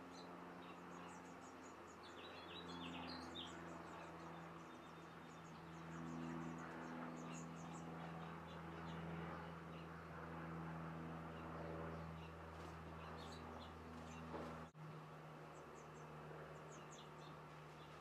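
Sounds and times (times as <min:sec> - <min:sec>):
small birds chirping: 0:00.0 - 0:10.2, 0:11.2 - 0:14.8, 0:15.4 - 0:18.0.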